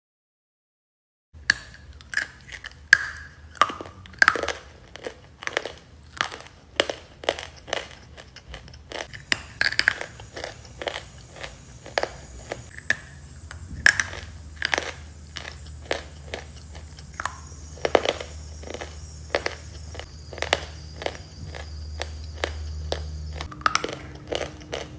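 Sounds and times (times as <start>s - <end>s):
chewing crunchy clay: 1.4s - 24.9s.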